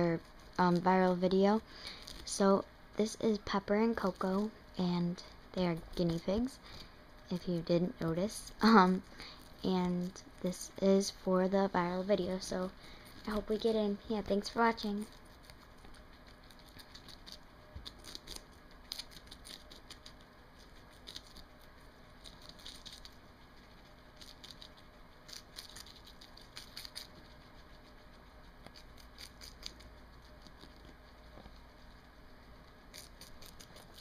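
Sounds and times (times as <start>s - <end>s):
guinea pigs chewing lettuce: 0.0s - 34.0s.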